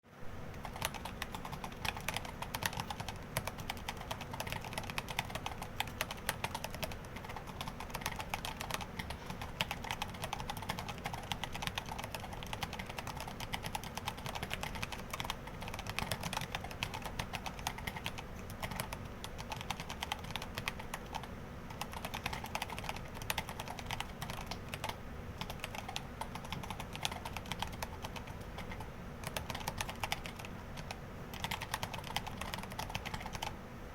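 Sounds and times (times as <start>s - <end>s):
fast typing on mechanical keyboard: 0.6s - 33.5s.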